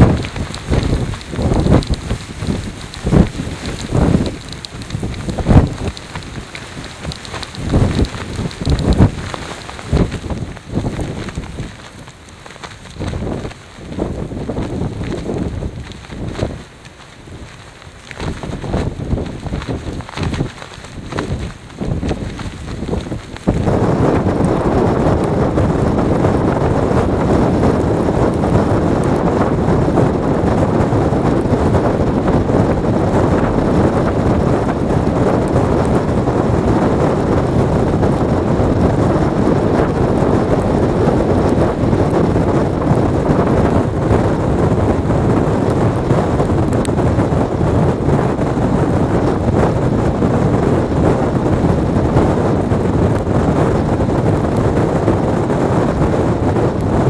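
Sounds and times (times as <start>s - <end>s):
strong wind on microphone: 0.0s - 57.0s.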